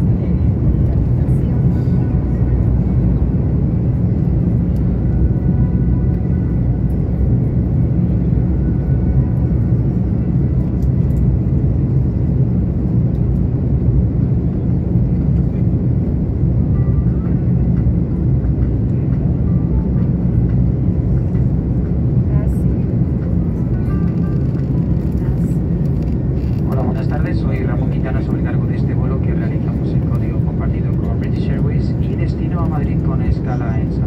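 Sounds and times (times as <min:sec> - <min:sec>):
airplane cabin rumble: 0:00.0 - 0:34.0
faint engine whine: 0:00.0 - 0:34.0.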